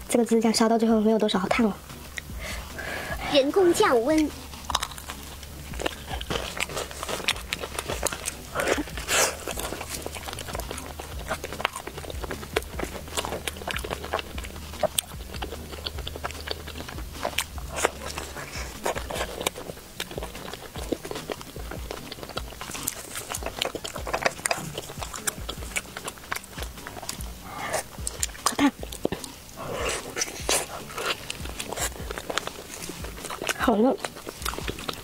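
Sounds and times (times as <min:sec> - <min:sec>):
crunchy chewing: 0:01.4 - 0:35.0.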